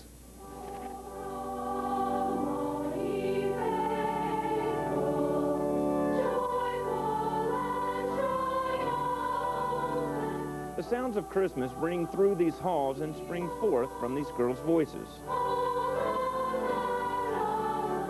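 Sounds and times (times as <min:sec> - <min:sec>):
girls' choir singing: 0:00.4 - 0:18.0.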